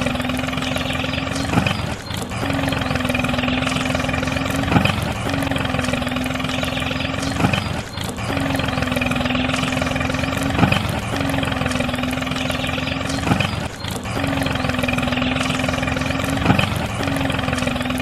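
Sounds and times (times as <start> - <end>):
tractor engine humming: 0.0 - 18.0.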